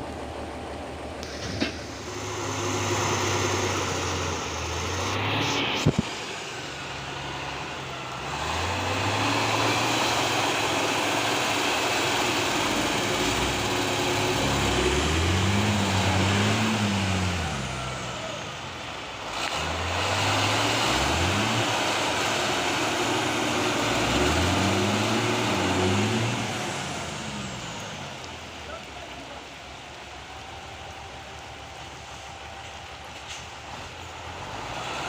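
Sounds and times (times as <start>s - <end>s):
diesel truck engine revving: 0.0s - 35.0s.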